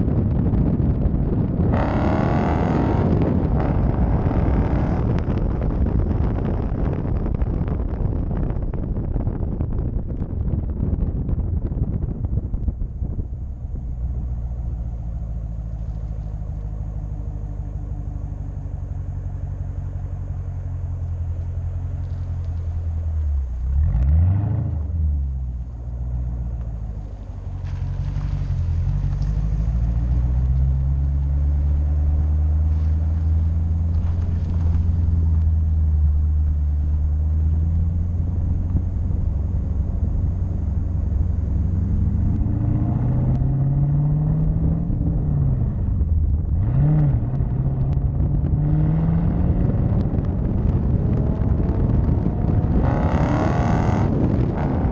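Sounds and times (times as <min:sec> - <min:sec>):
car exhaust droning: 0:00.0 - 0:54.9.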